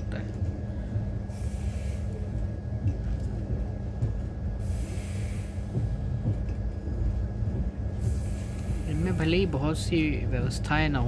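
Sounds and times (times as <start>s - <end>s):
constant hum: 0.0s - 11.0s
train rumble: 0.0s - 11.0s.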